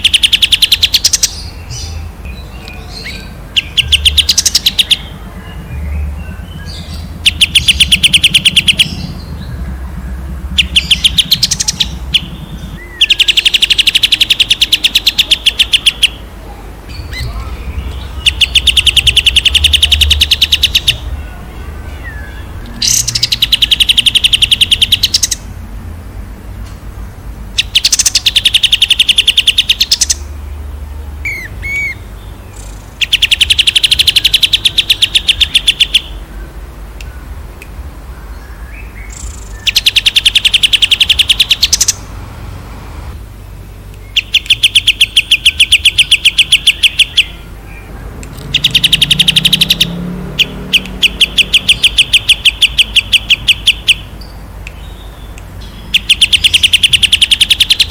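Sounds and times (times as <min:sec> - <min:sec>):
soft bird chirps: 0:00.0 - 0:25.5, 0:27.6 - 0:42.1, 0:43.9 - 0:57.9
songbird rapid trills: 0:00.0 - 0:25.5, 0:27.4 - 0:42.2, 0:43.7 - 0:57.9.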